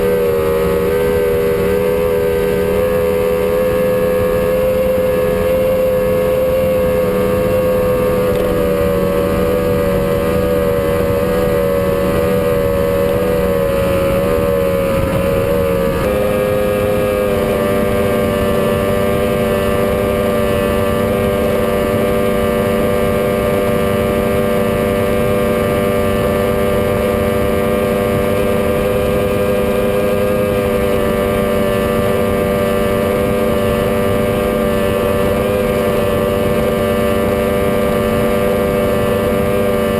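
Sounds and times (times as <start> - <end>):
powerboat engine running: 0.0 - 39.9.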